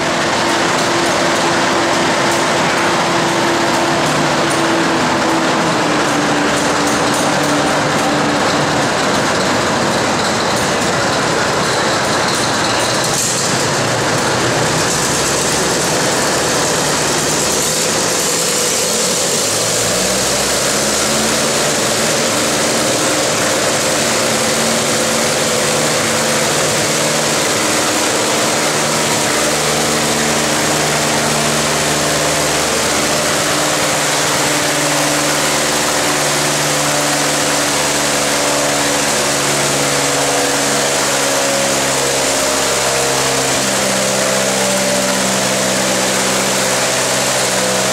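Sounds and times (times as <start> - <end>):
constant loud hiss: 0.0 - 47.9
tractor engine running: 0.0 - 47.9.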